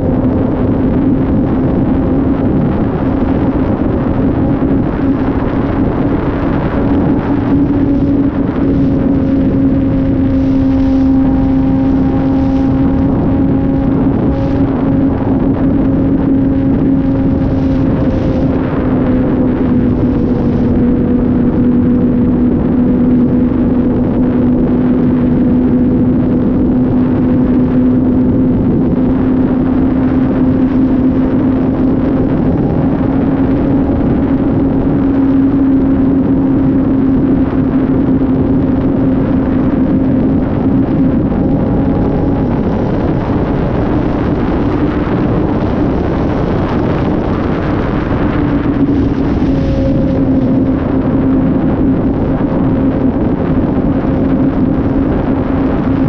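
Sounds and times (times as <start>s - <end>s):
motorcycle engine cruising: 0.0s - 56.0s
wind rushing: 0.0s - 56.0s.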